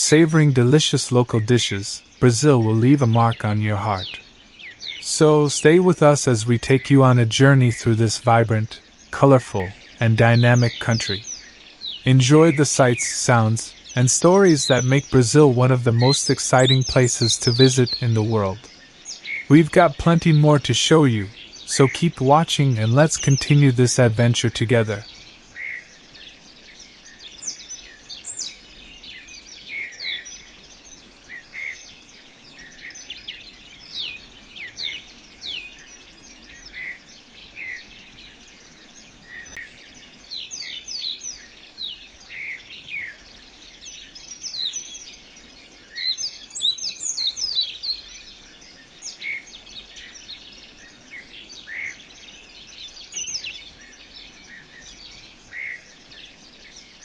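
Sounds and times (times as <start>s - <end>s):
birds chirping: 0.0s - 57.0s
faint steady hiss: 0.0s - 57.0s.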